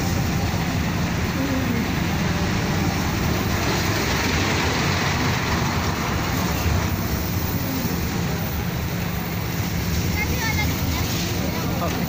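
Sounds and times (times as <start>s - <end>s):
roller coaster cars rumbling: 0.0s - 12.0s.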